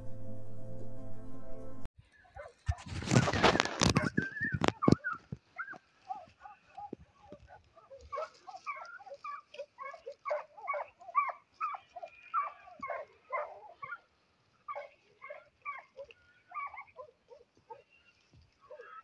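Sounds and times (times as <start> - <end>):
hounds barking: 2.2 - 2.9, 3.9 - 19.0.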